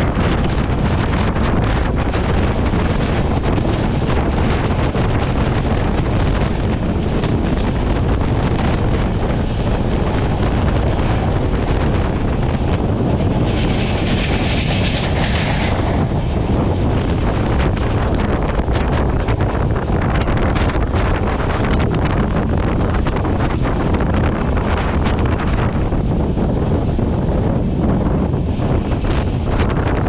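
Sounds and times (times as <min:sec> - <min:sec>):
train wheels rumbling on rail: 0:00.0 - 0:30.0
wind buffeting microphone: 0:00.0 - 0:30.0.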